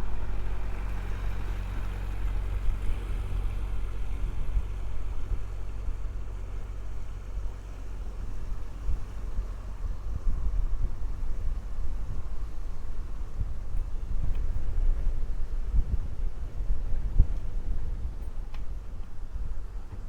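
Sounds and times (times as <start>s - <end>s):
faint engine hum: 0.0s - 20.0s
wind buffeting microphone: 0.0s - 20.0s.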